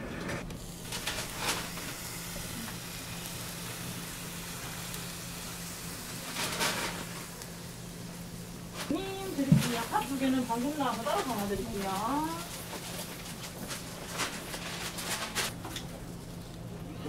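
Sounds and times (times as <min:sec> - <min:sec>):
batter sizzling in molds: 0:00.4 - 0:15.6.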